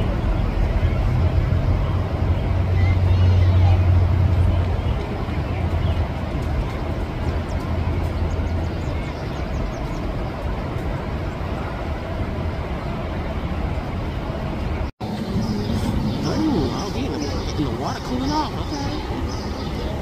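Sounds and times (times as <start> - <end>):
outdoor background rumble: 0.0 - 20.0.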